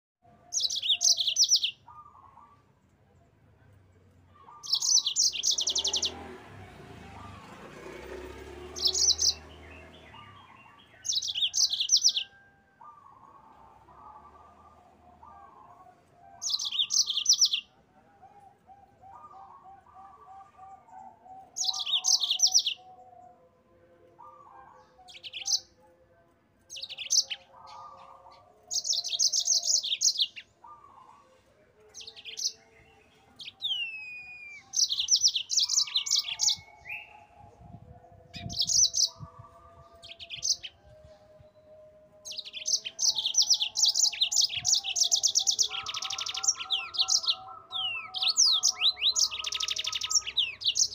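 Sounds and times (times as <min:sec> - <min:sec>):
canary singing trills: 0:00.3 - 0:02.8, 0:04.3 - 0:23.5, 0:24.1 - 0:50.9.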